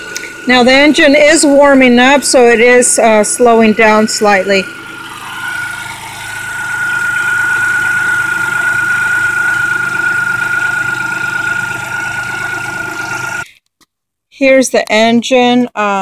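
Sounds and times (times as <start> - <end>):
car engine idling: 0.0 - 13.5
high whine: 0.0 - 13.5.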